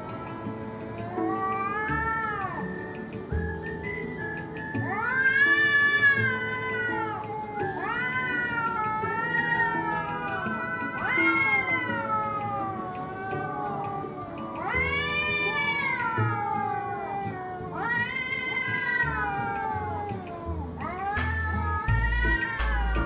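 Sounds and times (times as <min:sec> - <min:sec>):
cat meowing: 0:00.0 - 0:02.8, 0:04.9 - 0:23.0
soft background music: 0:00.0 - 0:23.0.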